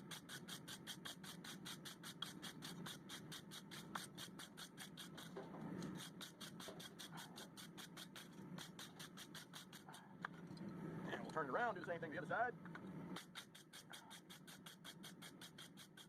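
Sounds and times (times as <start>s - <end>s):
wire brush scrubbing steel: 0.0s - 10.2s, 13.2s - 16.0s.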